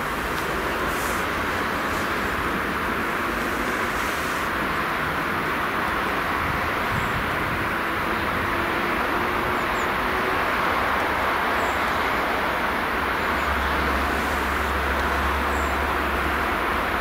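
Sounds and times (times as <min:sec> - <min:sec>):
distant diesel locomotive drone: 0:00.0 - 0:17.0.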